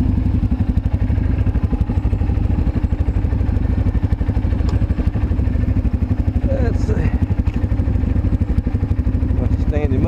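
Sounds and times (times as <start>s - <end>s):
atv engine idling: 0.0s - 10.0s.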